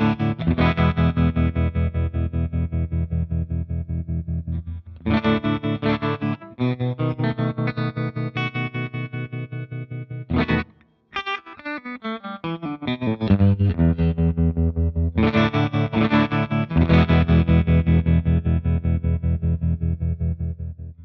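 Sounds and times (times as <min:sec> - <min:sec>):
electric guitar with tremolo: 0:00.0 - 0:21.0.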